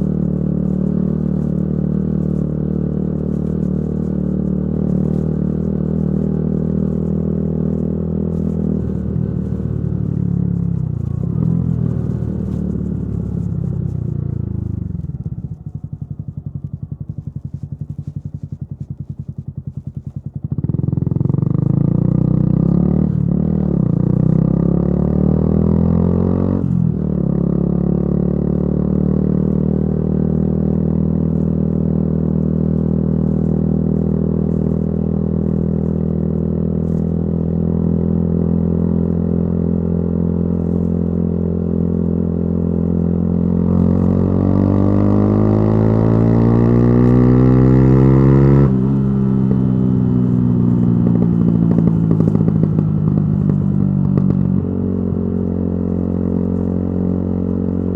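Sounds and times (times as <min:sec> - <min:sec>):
motorcycle engine: 0:00.0 - 0:57.9.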